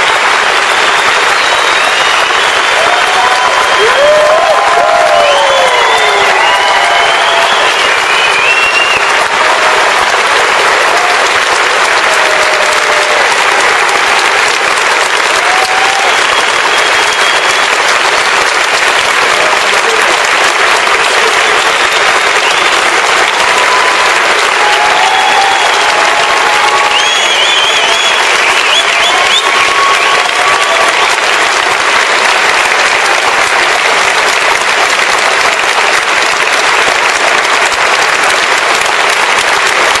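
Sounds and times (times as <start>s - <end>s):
audience applause: 0.0s - 40.0s.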